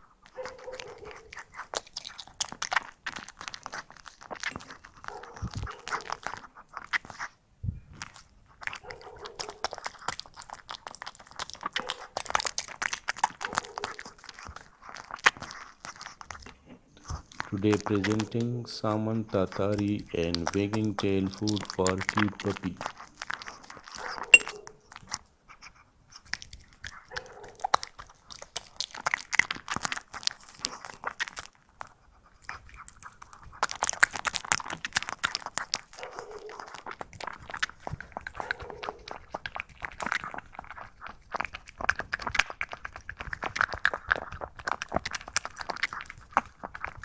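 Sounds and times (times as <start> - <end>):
puppy chewing and biting: 0.2 - 7.3, 7.9 - 47.0.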